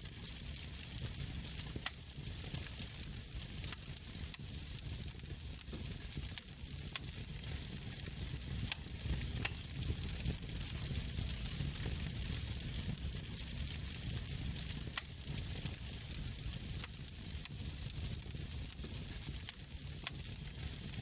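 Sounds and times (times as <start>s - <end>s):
wood fire crackling: 0.0s - 21.0s
burning logs popping: 0.2s - 21.0s.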